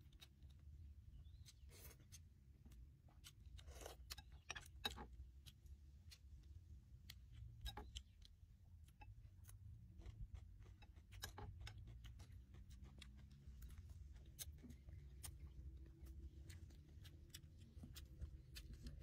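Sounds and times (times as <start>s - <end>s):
chewing: 0.0s - 19.0s
low steady rumble: 0.0s - 19.0s.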